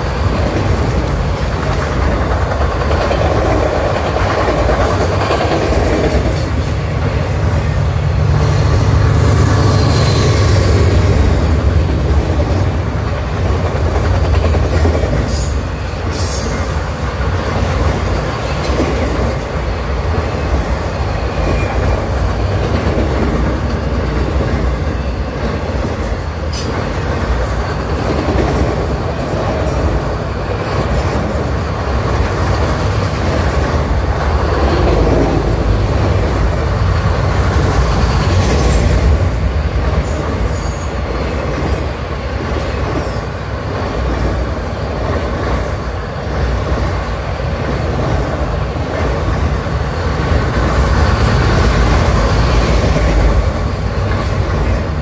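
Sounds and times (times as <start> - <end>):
sharp clanks from train cars: 0.0 - 7.7, 11.7 - 55.0
train wheels rumbling on rails: 0.0 - 55.0.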